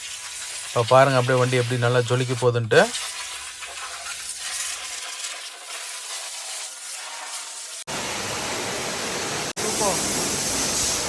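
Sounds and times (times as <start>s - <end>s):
high-pressure water spray hissing: 0.0s - 11.0s.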